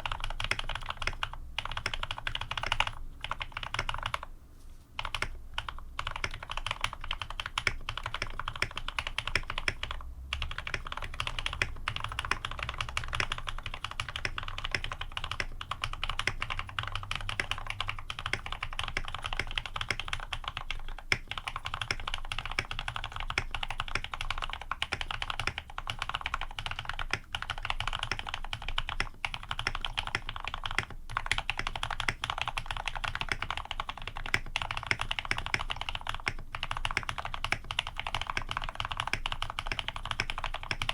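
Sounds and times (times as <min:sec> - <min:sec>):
fast mechanical keyboard typing: 0:00.0 - 0:04.3, 0:05.0 - 0:40.9.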